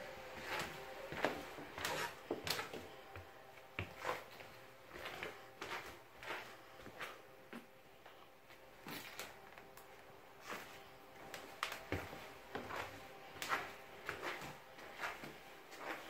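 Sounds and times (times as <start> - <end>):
footsteps: 0.0 - 16.0.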